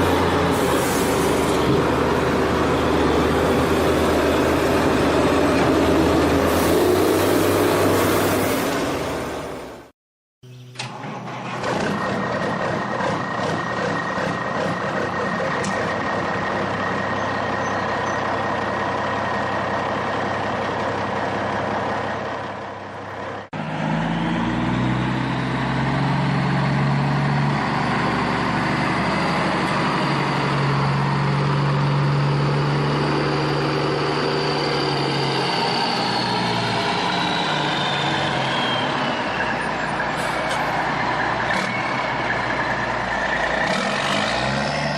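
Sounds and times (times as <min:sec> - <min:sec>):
truck engine running: 0:00.0 - 0:08.2, 0:10.5 - 0:44.9.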